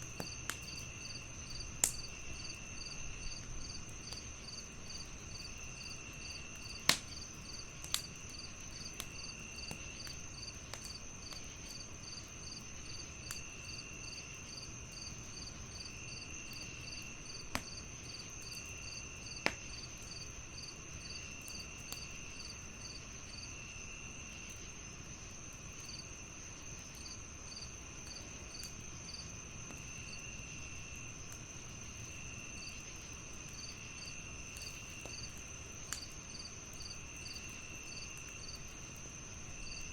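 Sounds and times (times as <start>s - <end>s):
crickets chirping: 0.0s - 39.9s
fireplace crackling with pops: 0.0s - 39.9s.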